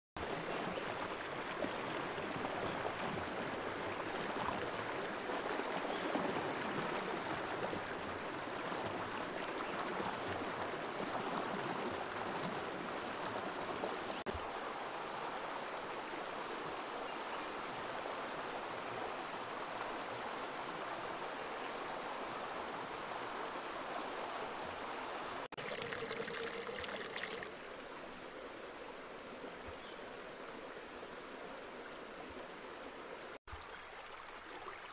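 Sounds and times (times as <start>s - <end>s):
stream flowing over rocks: 0.2s - 34.9s.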